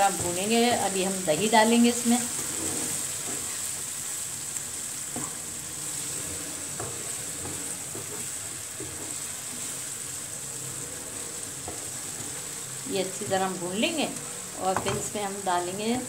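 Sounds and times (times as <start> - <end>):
wooden spoon scraping a pan: 0.0 - 15.2
onions sizzling in a frying pan: 0.0 - 16.0.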